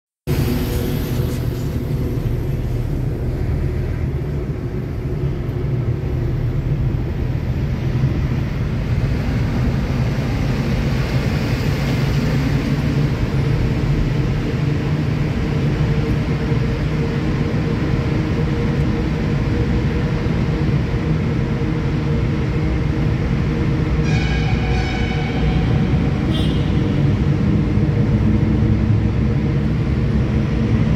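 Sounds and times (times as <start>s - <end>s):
car road and engine rumble: 0.3s - 30.9s.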